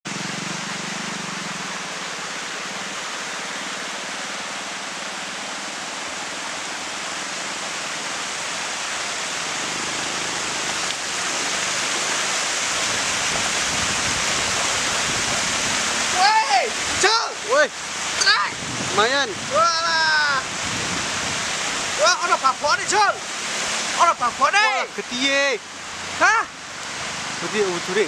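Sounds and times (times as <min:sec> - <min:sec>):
stream water rushing: 0:00.1 - 0:28.0.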